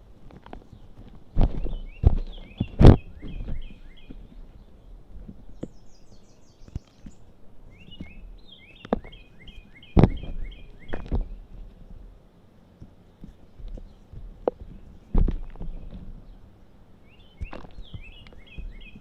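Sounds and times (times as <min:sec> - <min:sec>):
bird chirping: 0:00.0 - 0:11.9, 0:12.8 - 0:19.0.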